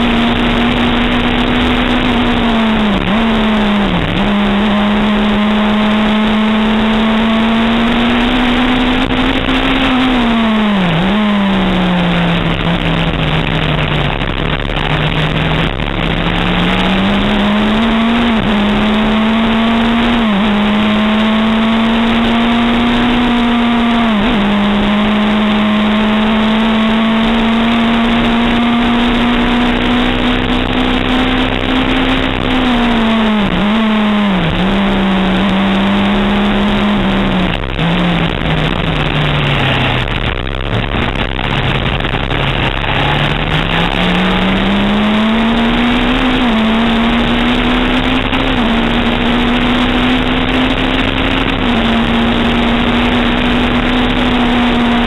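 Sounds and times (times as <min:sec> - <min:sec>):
racing car engine revving: 0:00.0 - 0:55.0
wind and road noise: 0:00.0 - 0:55.0.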